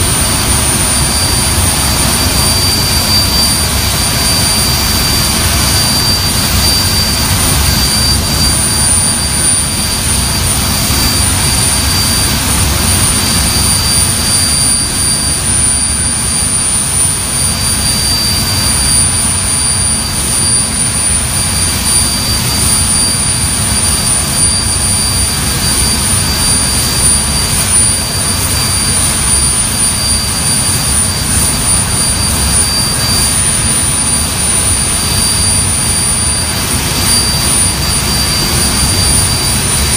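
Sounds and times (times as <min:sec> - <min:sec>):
high steady whine: 0:00.0 - 0:39.9
jet engines running: 0:00.0 - 0:39.9.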